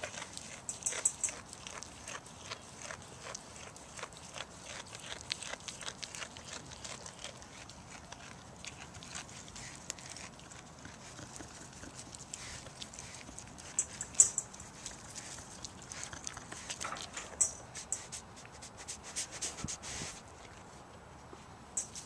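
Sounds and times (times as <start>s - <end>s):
goat chewing leaves: 0.0s - 22.0s.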